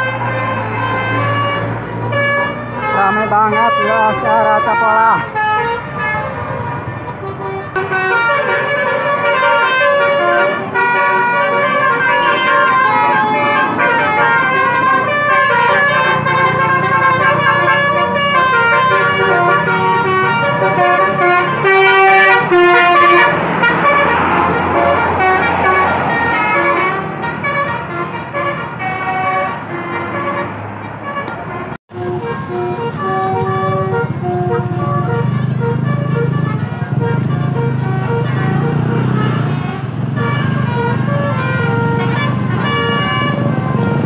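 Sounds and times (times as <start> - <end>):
bus engine hum: 0.0 - 44.0
musical air horn tune: 0.0 - 44.0.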